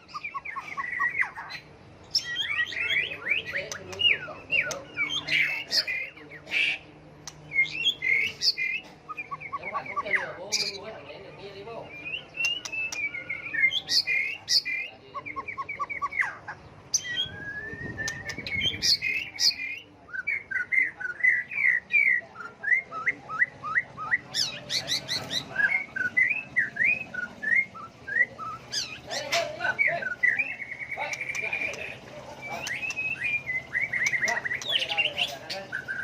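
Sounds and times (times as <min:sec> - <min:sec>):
bird singing whistled song: 0:00.0 - 0:01.4, 0:02.1 - 0:06.2, 0:07.4 - 0:10.8, 0:11.9 - 0:16.3, 0:16.9 - 0:36.0.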